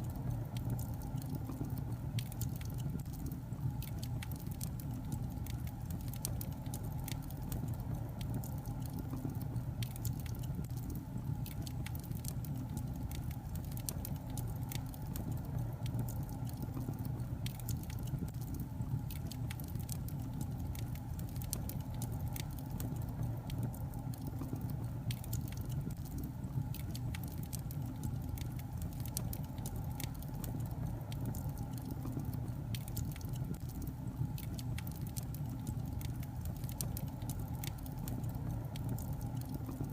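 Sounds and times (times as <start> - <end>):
fire crackling and popping: 0.0 - 39.9
low rumble of fire: 0.0 - 39.9.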